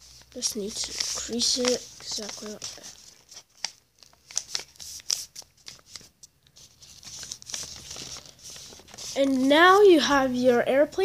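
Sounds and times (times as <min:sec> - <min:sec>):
paper crackling: 0:00.0 - 0:09.8
paper rustling and crinkling: 0:00.0 - 0:09.8.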